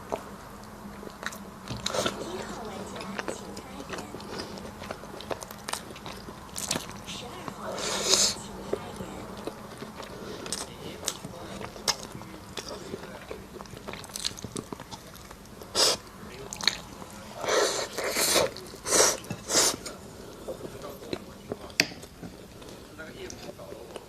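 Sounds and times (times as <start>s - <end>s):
chewing and biting: 0.0s - 24.0s.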